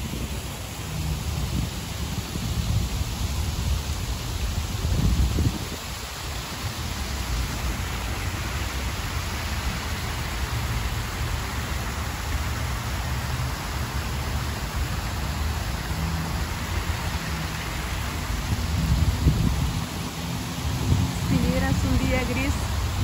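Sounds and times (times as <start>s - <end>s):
water rushing down waterfall: 0.0s - 23.0s.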